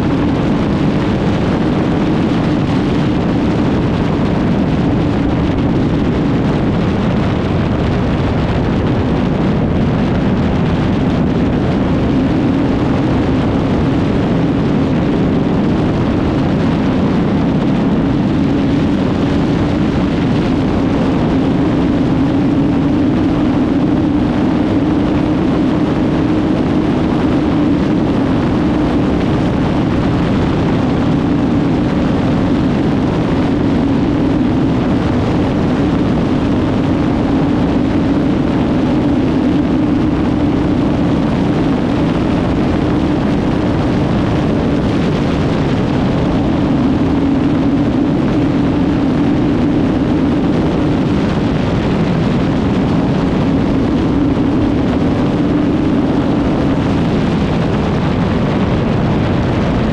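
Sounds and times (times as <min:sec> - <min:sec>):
motorcycle engine running hard: 0:00.0 - 0:59.9
wind noise on microphone: 0:00.0 - 0:59.9.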